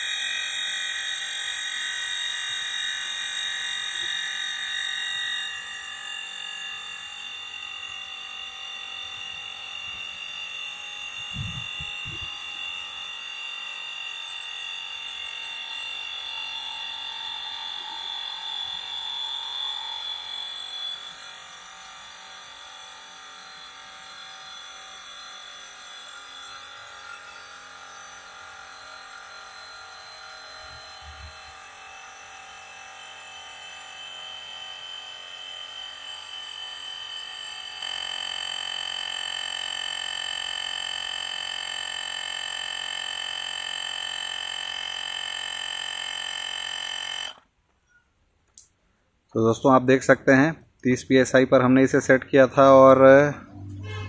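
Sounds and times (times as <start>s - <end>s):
small compressor whine: 0.0s - 54.0s.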